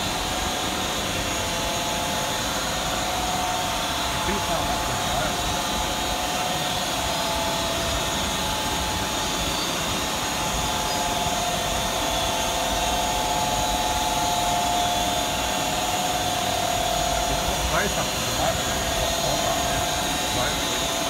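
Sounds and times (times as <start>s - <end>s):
car wash machine running: 0.0s - 21.0s.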